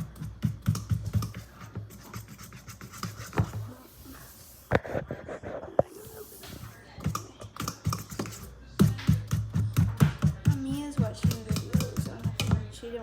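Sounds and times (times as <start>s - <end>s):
fork beating batter in bowl: 0.0s - 13.0s.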